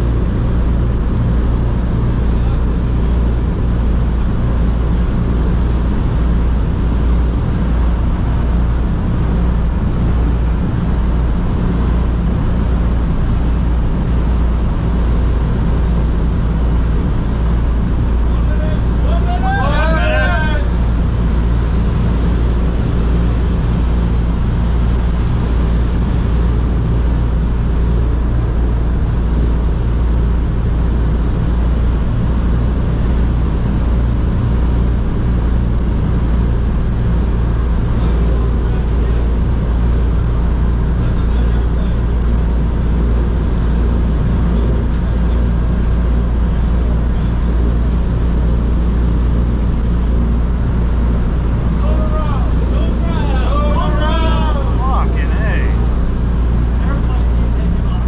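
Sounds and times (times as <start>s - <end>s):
aircraft engines droning: 0.0s - 58.0s.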